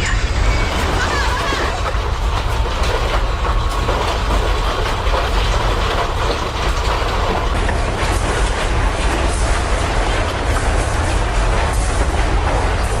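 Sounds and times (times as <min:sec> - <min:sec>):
earthquake deep rumble: 0:00.0 - 0:13.0
objects rattling and clattering: 0:00.0 - 0:13.0.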